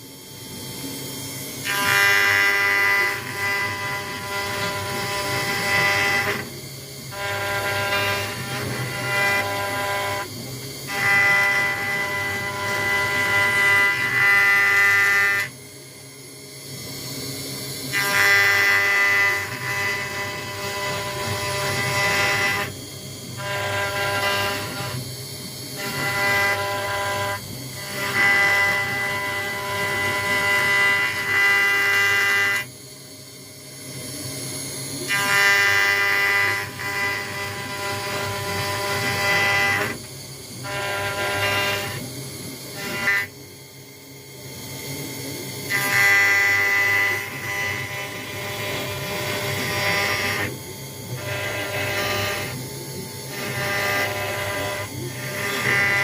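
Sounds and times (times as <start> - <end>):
router spindle whine: 0.0 - 56.0.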